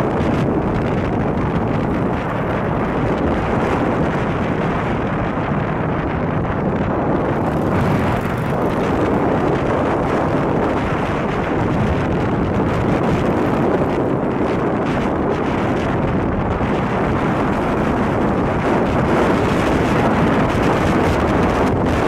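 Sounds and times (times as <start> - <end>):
motorcycle engine cruising: 0.0 - 22.0
wind buffeting microphone: 0.0 - 22.0.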